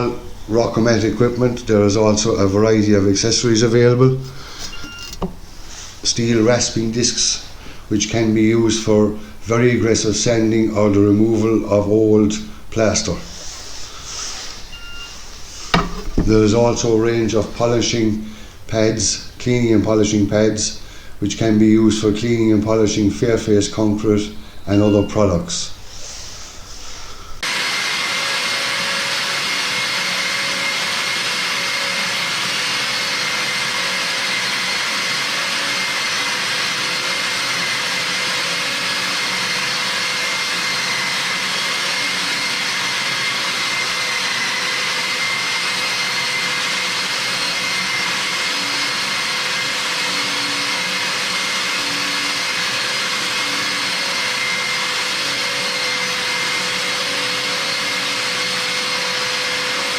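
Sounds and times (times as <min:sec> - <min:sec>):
wall sander with vacuum running: 0:00.0 - 0:19.0, 0:27.4 - 0:59.9.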